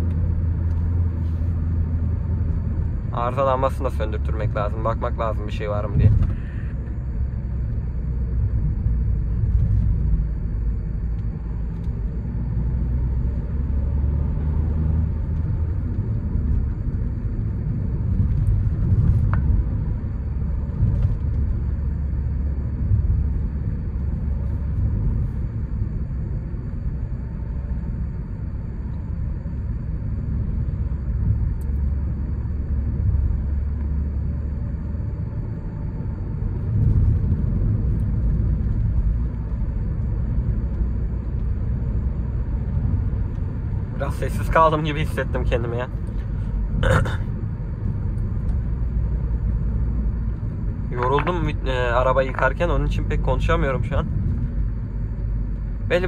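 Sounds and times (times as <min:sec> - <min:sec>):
diesel engine and road rumble: 0:00.0 - 0:56.0.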